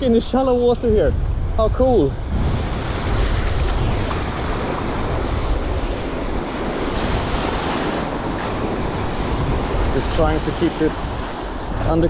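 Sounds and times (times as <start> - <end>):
sea waves breaking: 0.0 - 12.0
wind buffeting microphone: 0.0 - 12.0.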